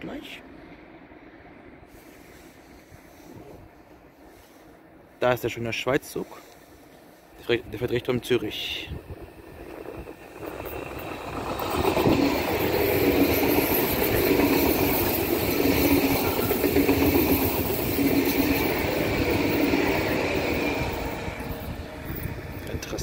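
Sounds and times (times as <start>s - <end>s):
train hum: 0.0s - 23.0s
train wheels rumbling on rail: 1.9s - 23.0s.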